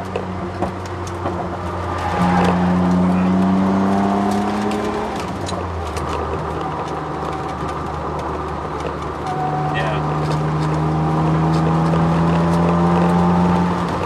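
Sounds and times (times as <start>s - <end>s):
car engine pulling: 0.0s - 14.0s.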